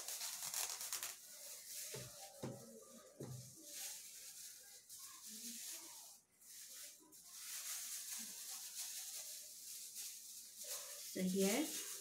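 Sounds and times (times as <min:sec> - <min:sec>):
plastic gloves rustling: 0:00.0 - 0:12.0.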